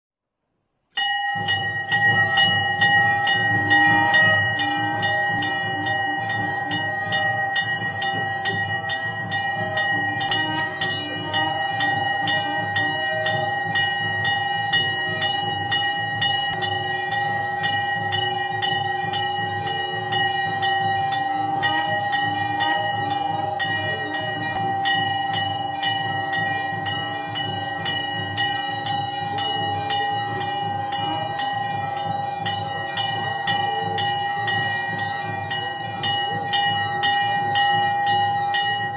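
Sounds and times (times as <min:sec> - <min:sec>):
bells ringing rapidly: 0:01.0 - 0:38.9.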